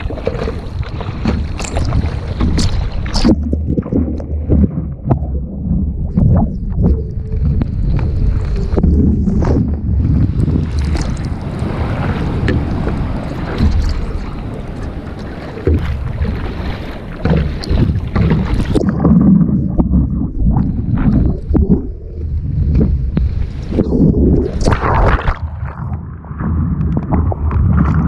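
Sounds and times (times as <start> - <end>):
water sloshing and splashing: 0.0 - 28.0
wind buffeting microphone: 0.0 - 28.0.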